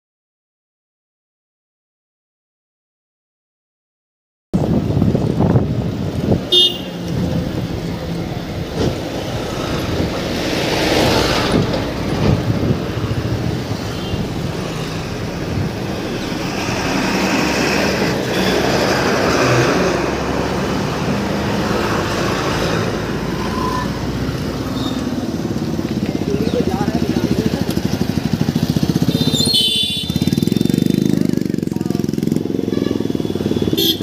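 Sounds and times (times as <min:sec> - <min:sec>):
road noise: 0:04.6 - 0:34.0
vehicle engines running: 0:04.6 - 0:34.0.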